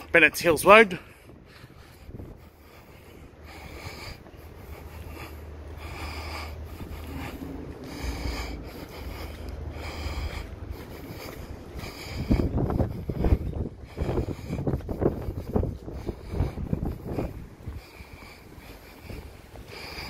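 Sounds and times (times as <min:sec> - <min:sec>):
road traffic rumble: 0:00.0 - 0:20.0
wind on microphone: 0:01.2 - 0:20.0
breath hissing: 0:01.5 - 0:20.0.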